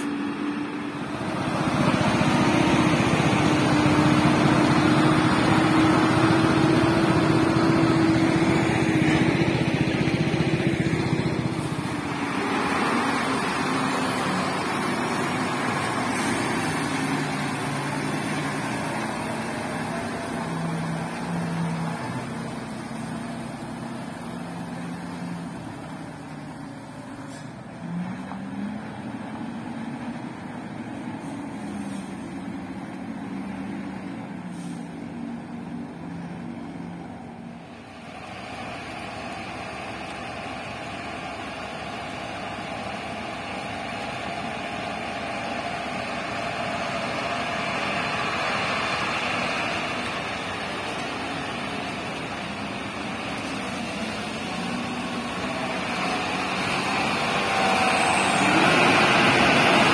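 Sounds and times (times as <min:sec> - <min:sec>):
diesel truck engine droning: 0:00.0 - 0:59.9.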